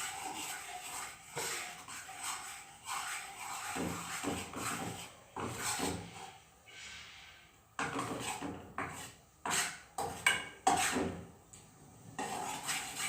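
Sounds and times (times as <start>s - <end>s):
utensil scraping a pan: 0.0s - 11.3s, 12.0s - 13.0s.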